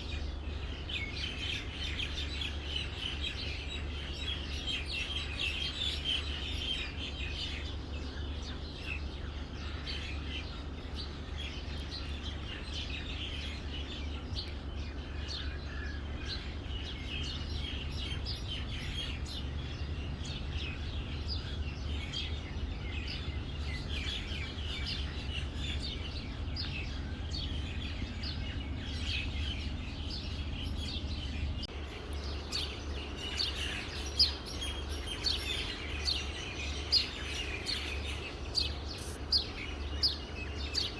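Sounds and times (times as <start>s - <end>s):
small birds chirping: 0.0s - 40.9s
steady low hum: 0.0s - 40.9s.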